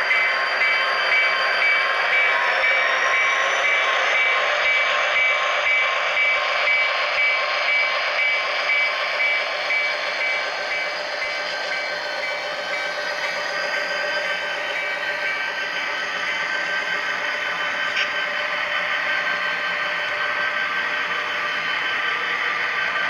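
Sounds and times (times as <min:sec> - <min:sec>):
model train running: 0:00.0 - 0:23.0.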